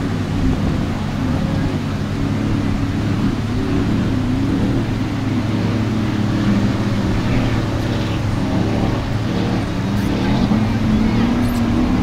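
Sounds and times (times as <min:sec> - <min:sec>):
powerboat engine drone: 0:00.0 - 0:12.0.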